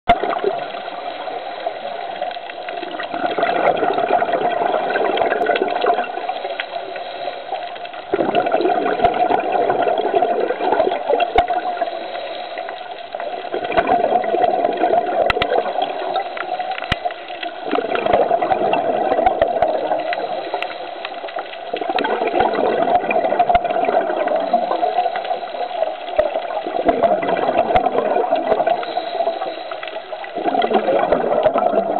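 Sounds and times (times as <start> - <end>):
exhaled bubbles underwater: 0.1 - 31.9.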